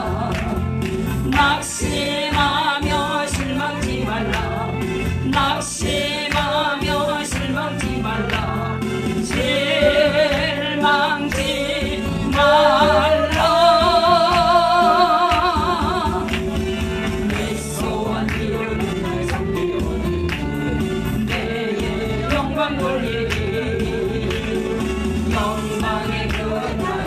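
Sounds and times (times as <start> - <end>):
instrumental accompaniment: 0.0 - 27.0.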